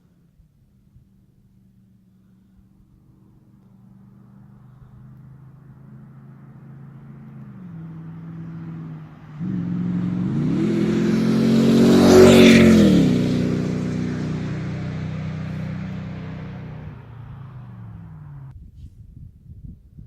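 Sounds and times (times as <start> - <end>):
truck engine accelerating past: 2.4 - 18.5.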